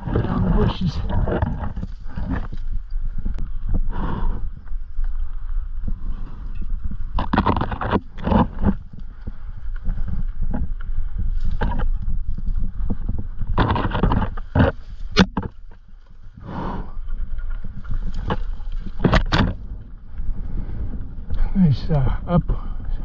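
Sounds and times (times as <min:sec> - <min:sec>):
branches scraping against bike: 0:00.0 - 0:03.7, 0:04.9 - 0:21.0
wind rumble on microphone: 0:00.0 - 0:23.0.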